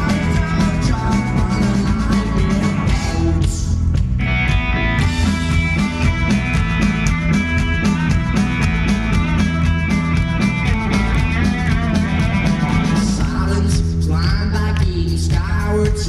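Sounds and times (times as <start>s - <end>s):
guitar chords: 0.0s - 14.6s
bass guitar: 0.0s - 16.0s
drum kit beat: 0.0s - 16.0s.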